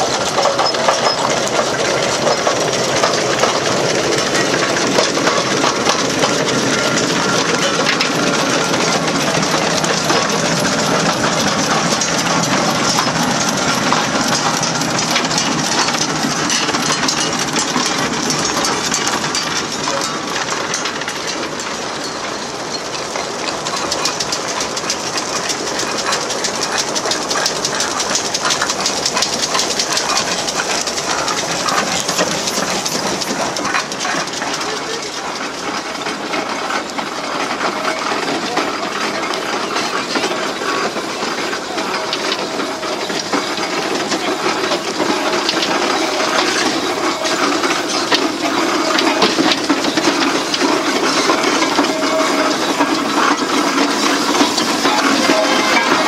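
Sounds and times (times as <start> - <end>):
metallic clatter of running gear: 0.0 - 56.0
steam hissing: 0.0 - 56.0.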